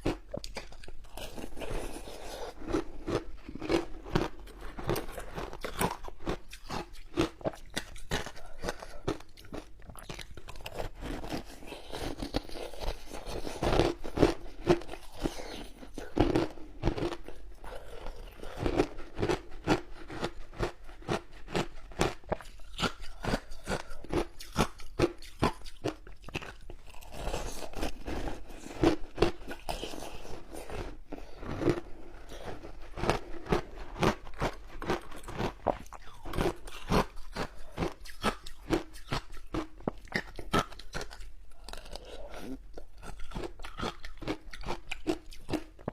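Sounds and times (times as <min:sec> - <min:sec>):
ice crunching and chewing: 0:00.0 - 0:45.9.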